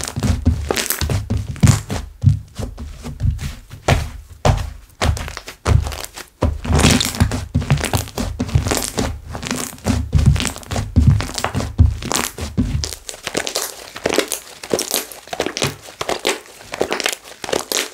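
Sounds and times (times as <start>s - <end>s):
hands squishing slime: 0.0s - 2.1s, 3.4s - 17.9s.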